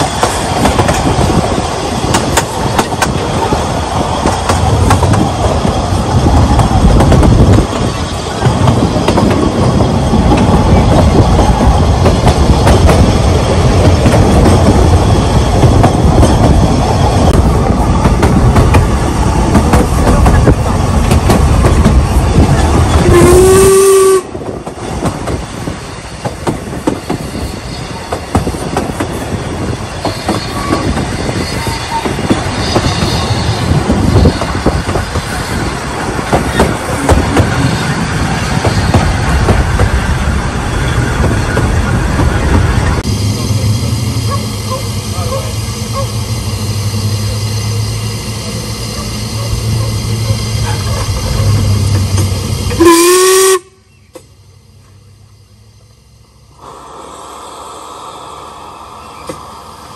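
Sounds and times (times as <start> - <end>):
train rumbling with wheel clicks: 0.0 - 56.9, 58.5 - 59.9.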